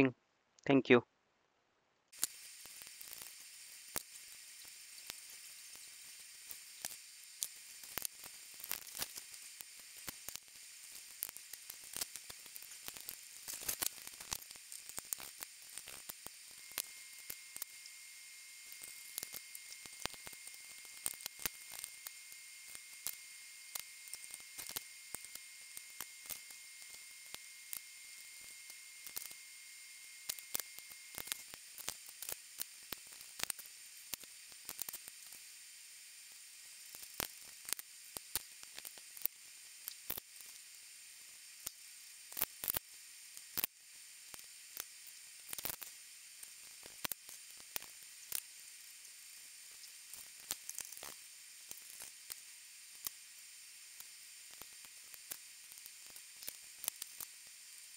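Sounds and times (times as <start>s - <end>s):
small sharp clicks and ticks: 2.1s - 57.9s.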